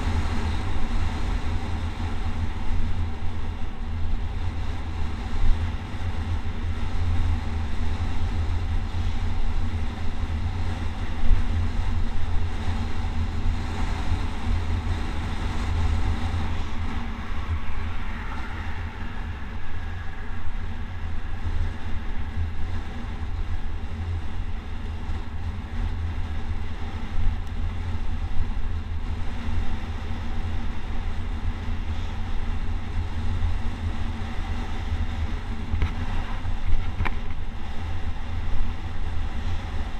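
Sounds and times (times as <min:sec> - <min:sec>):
rolling road noise hiss: 0:00.0 - 0:39.9
wind rushing over microphone: 0:00.0 - 0:39.9.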